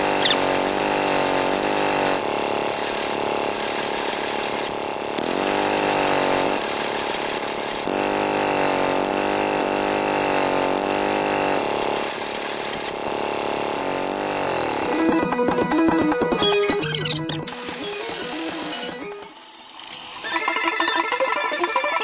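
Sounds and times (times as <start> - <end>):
small motor running: 0.0 - 22.0.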